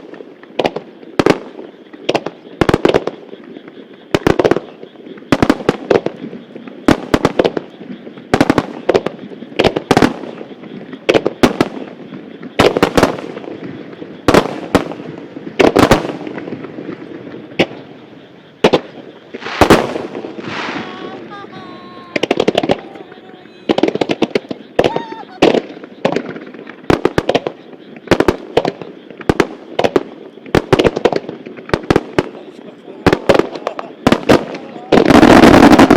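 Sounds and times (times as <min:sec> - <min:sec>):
fireworks bursting with loud bangs: 0:00.0 - 0:35.9
fireworks crackling: 0:00.0 - 0:35.9.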